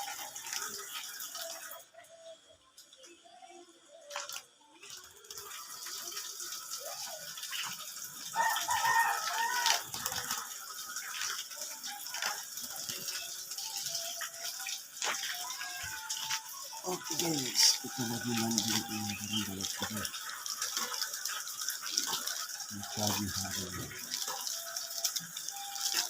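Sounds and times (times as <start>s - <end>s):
water running: 0.0s - 26.0s.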